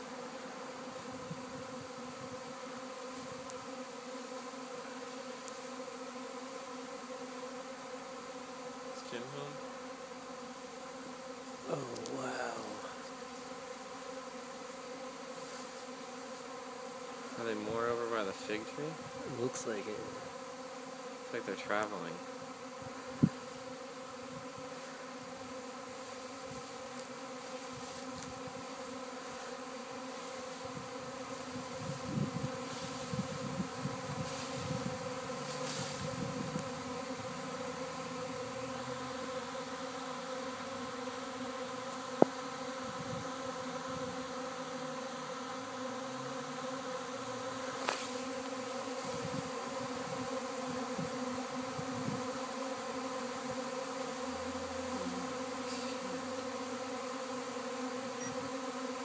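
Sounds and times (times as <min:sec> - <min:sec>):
bee swarm buzzing: 0:00.0 - 0:59.0.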